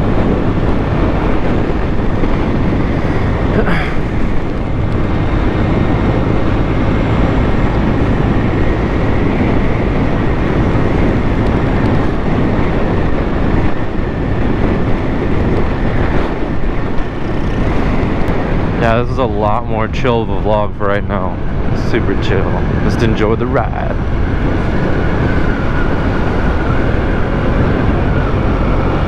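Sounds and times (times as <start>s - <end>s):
motorcycle engine drone: 0.0s - 29.0s
wind and road noise: 0.0s - 29.0s.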